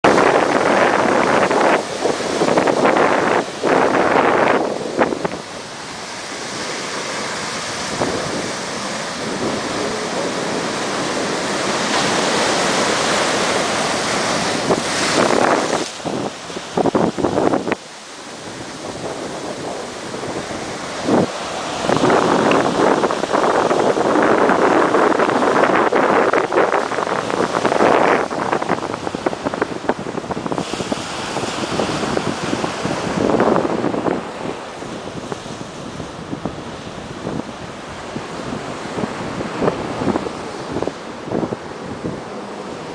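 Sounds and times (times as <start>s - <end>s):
ocean waves washing in: 0.0s - 42.9s
surf breaking on shore: 0.0s - 42.9s
wind buffeting microphone: 0.0s - 42.9s.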